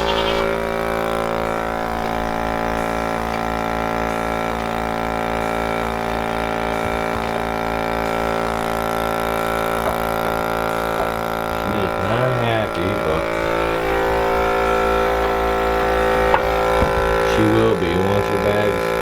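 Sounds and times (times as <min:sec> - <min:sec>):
rhythmic milking pulse: 0:00.0 - 0:19.0
vacuum pump motor humming: 0:00.0 - 0:19.0.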